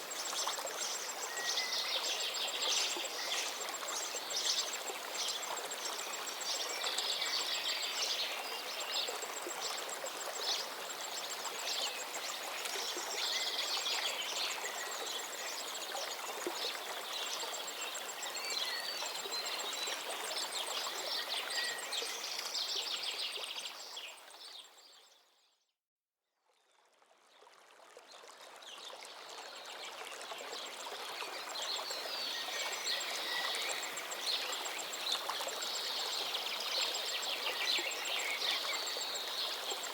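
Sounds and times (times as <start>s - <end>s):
stream flowing: 0.0s - 24.8s, 26.8s - 39.9s.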